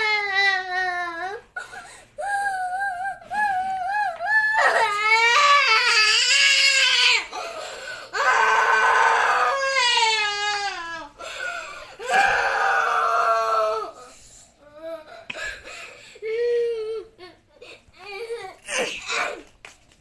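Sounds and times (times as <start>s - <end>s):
girl crying and sobbing: 0.0s - 19.5s.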